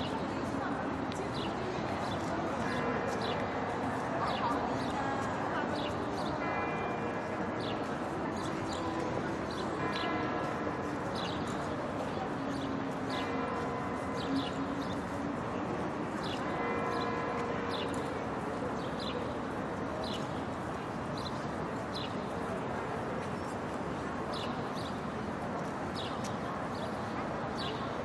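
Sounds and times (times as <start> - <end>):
crowd murmur: 0.0 - 28.0.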